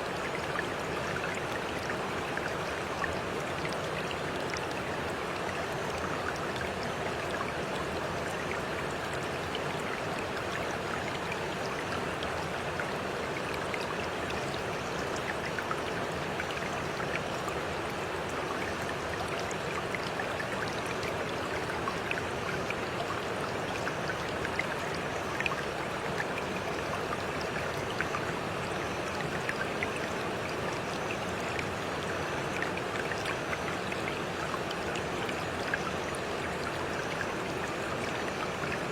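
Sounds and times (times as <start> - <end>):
stream water rushing: 0.0 - 38.9
water drips and splashes: 0.0 - 38.9.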